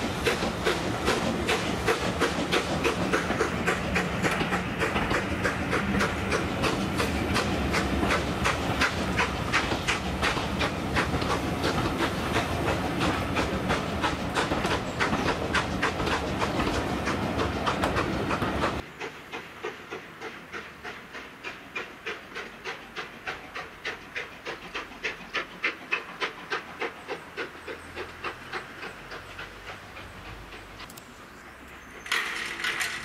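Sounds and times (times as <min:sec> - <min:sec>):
distant steam train pulling away: 0:00.0 - 0:33.0
train rumble: 0:00.0 - 0:33.0
wheels clicking over rail joints: 0:00.0 - 0:33.0.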